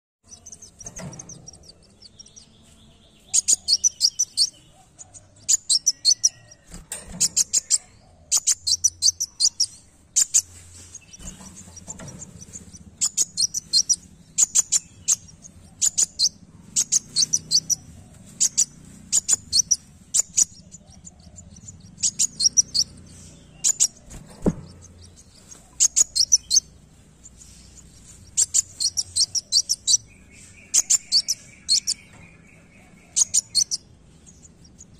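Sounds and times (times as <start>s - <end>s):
bird chirping rapidly: 0.2s - 34.9s.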